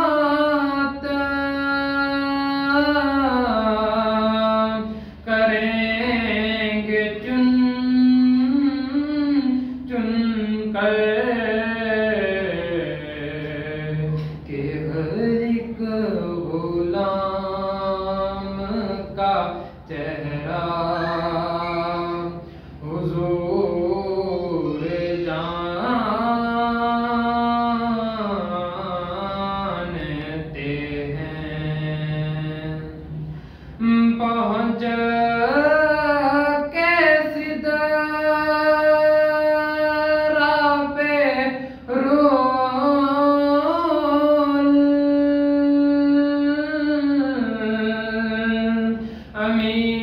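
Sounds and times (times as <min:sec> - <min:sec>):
young man singing unaccompanied: 0:00.0 - 0:50.0.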